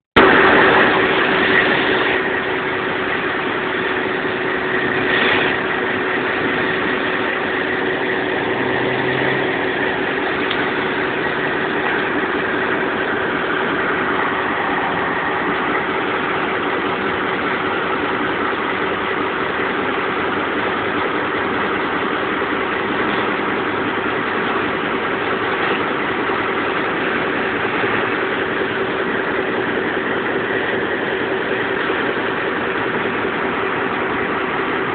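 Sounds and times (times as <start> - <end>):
diesel locomotive engine drone: 0.2 - 34.9
rushing noise: 0.2 - 34.9.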